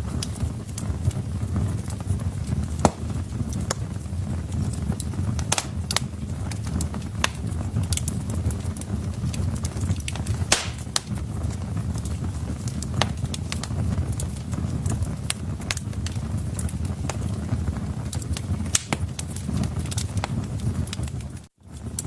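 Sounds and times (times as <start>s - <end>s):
loud fire pops: 0.0s - 22.0s
wood fire crackling: 0.0s - 22.0s.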